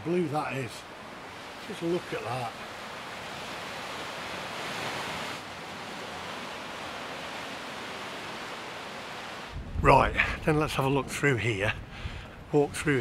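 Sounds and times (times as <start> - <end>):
sea surf: 0.0 - 13.0.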